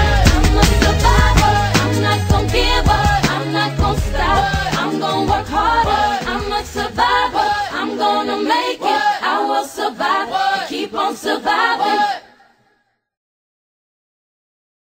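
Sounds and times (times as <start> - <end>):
r and b pop song: 0.0 - 12.4
layered female vocal harmonies: 0.0 - 12.6.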